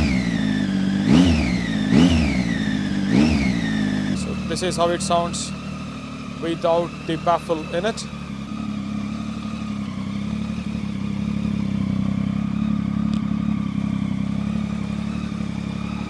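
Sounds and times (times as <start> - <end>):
loud motorcycle exhaust idling: 0.0 - 16.0.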